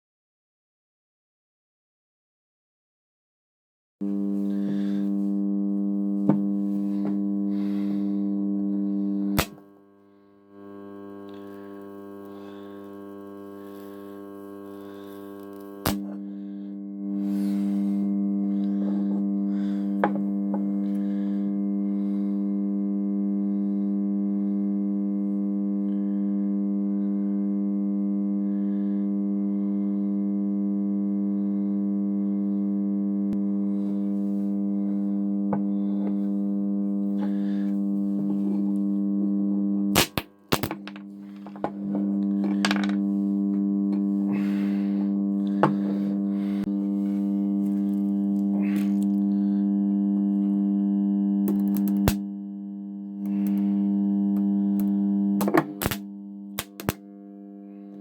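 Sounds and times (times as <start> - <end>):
transformer humming loudly: 4.0 - 58.0.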